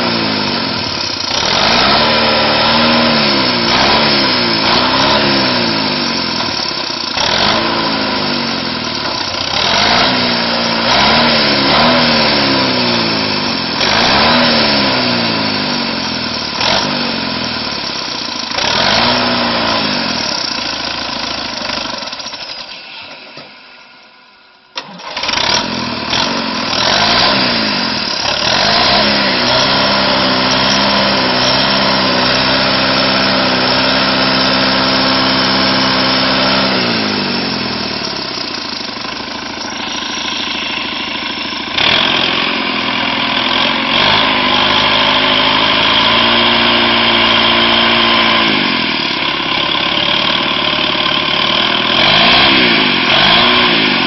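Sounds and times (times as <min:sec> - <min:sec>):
tractor engine working under load: 0:00.0 - 0:54.0.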